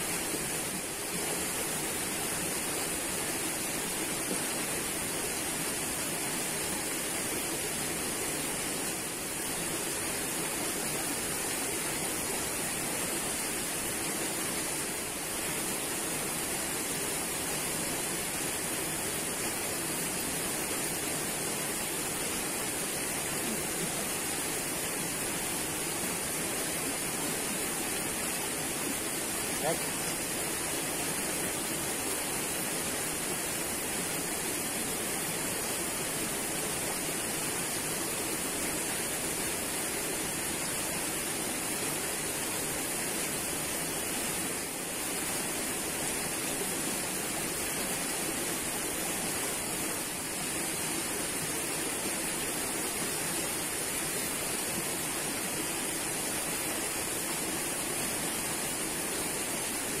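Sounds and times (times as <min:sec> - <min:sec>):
stream water rushing: 0:00.0 - 1:00.0.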